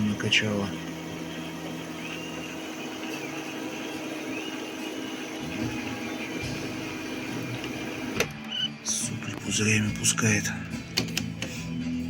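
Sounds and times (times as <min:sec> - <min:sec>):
printer pump whirring: 0:00.0 - 0:11.5.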